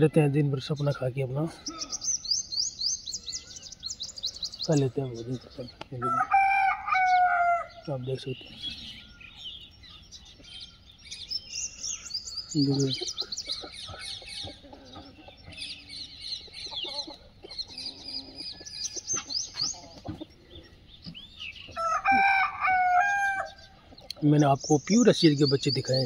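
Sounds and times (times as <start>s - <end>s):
chickens clucking and chirping: 0.0s - 26.0s.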